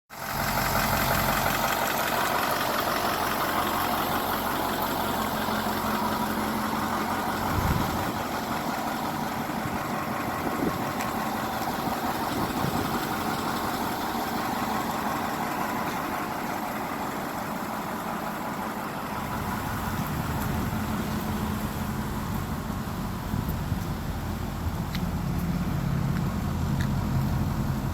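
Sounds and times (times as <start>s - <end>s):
truck engine idling: 0.1s - 27.9s.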